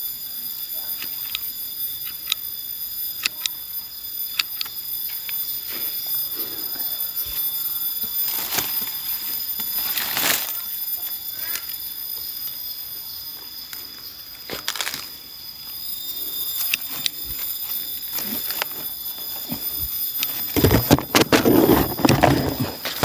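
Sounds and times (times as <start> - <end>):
high-pitched insect drone: 0.0 - 23.0
leaves and twigs rustling: 3.2 - 23.0.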